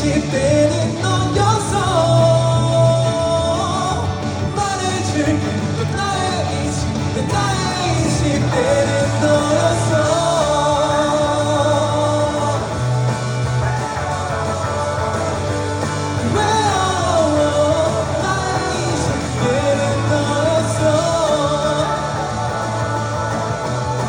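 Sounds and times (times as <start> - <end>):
guitar and bass: 0.0 - 24.0
person singing: 0.0 - 24.0.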